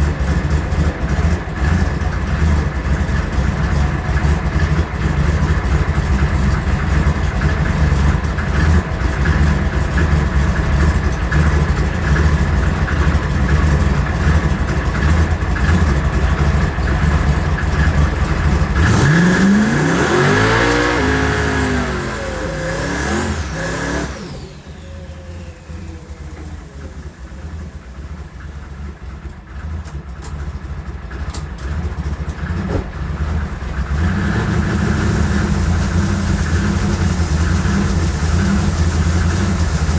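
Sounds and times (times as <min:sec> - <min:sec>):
race car engine revving: 0:00.0 - 0:30.3, 0:31.1 - 0:39.9
race car engine idling: 0:00.0 - 0:39.9.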